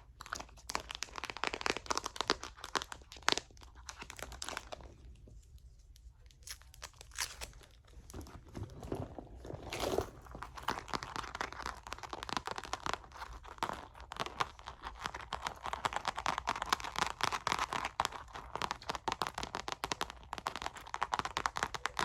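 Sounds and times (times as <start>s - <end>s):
crinkling and crackling handling: 0.0s - 22.0s.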